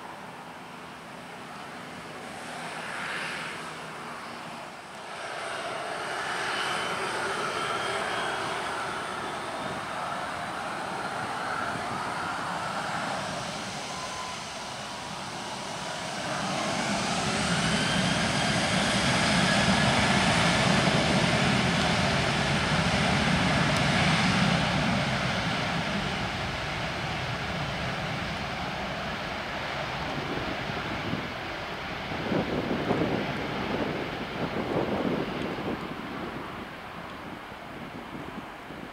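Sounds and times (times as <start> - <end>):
jet engines spooling up: 2.4 - 38.8.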